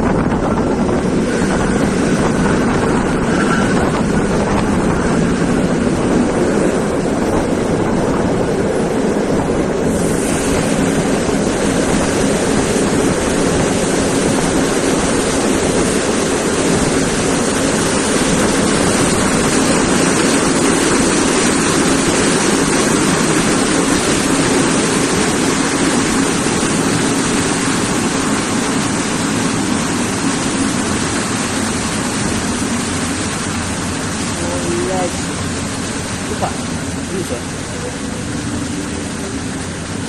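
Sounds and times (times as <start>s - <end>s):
train rumbling past platform: 0.0s - 40.0s.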